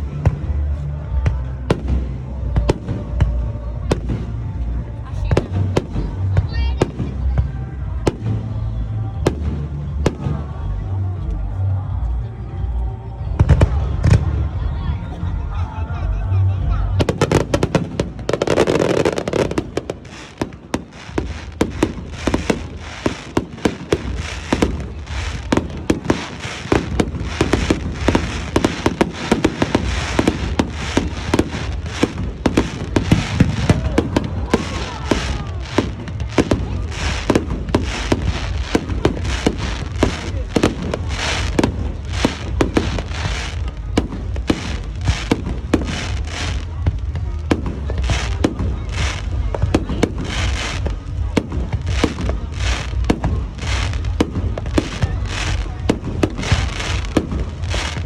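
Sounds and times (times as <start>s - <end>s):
fireworks bangs and crackles: 0.0s - 15.5s, 16.8s - 58.0s
steady low rumble: 0.0s - 58.0s.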